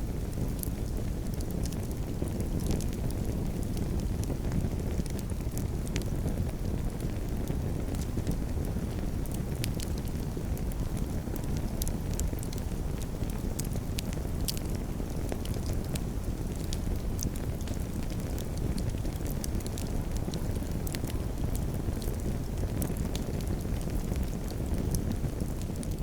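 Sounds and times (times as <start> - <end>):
fire low rumble: 0.0 - 26.0
wood crackling and popping: 0.0 - 26.0.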